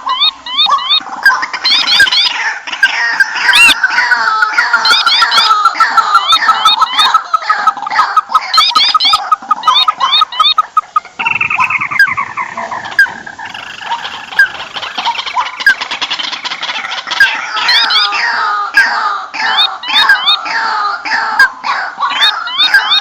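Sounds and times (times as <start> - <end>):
bird trill: 0.0 - 20.6, 22.1 - 23.0
birds chirping and whistling: 0.0 - 20.6, 21.3 - 23.0.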